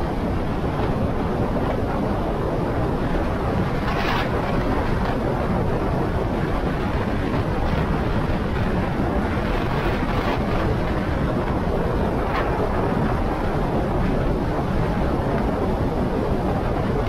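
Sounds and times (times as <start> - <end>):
motorcycle wind and road noise: 0.0 - 17.0
wind gusts on microphone: 0.0 - 17.0.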